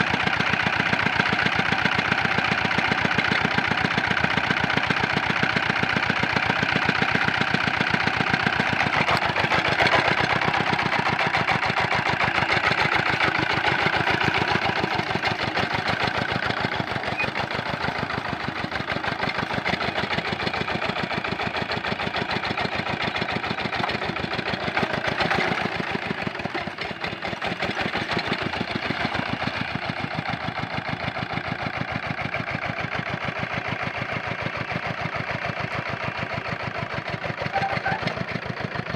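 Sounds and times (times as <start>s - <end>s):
tractor diesel engine chugging: 0.0s - 38.9s.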